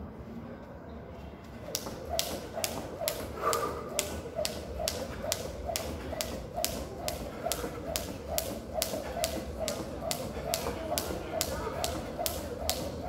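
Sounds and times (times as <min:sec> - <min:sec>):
jump rope slapping concrete floor: 0:01.6 - 0:13.0.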